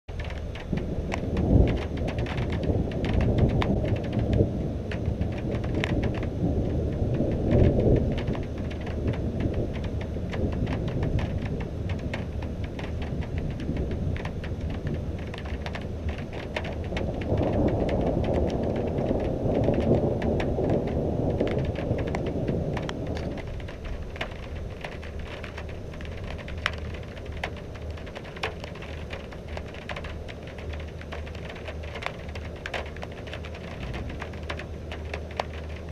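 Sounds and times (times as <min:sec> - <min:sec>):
rain falling: 0:00.1 - 0:35.9
thunder rumbling: 0:00.1 - 0:35.9.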